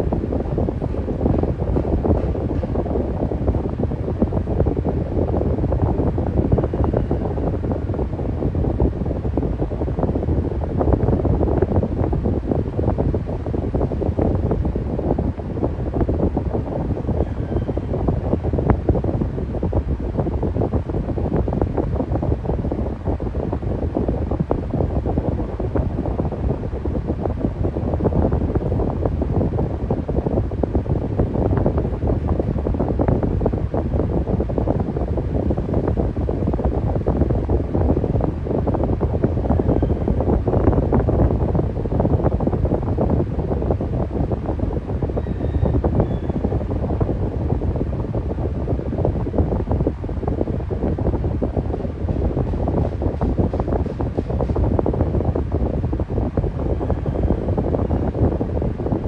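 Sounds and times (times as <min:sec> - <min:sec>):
air buffeting microphone: 0:00.0 - 0:59.0
electric fan running: 0:00.0 - 0:59.0.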